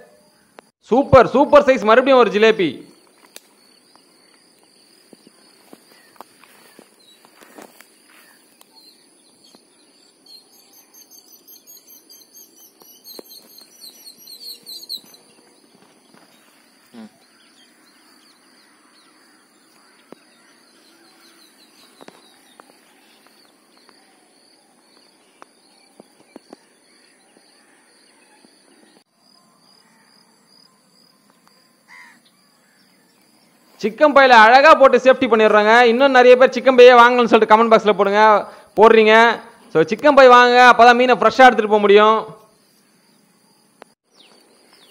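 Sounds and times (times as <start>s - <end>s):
bird chirping: 0.0s - 34.0s, 42.4s - 44.9s.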